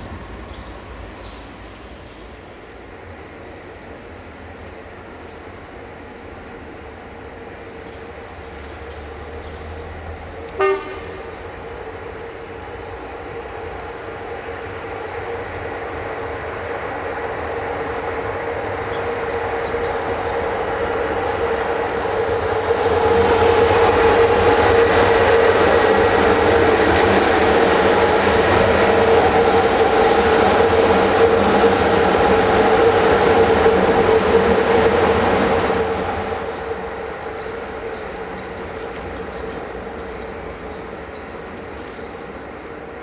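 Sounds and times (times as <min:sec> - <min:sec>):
electric locomotive passing: 0:00.0 - 0:43.0.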